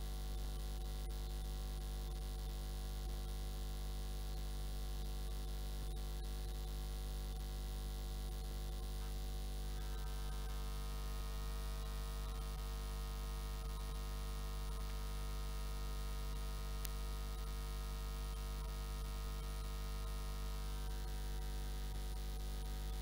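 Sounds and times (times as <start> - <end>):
electrical mains hum: 0.0 - 23.0
faint static hiss: 0.0 - 23.0.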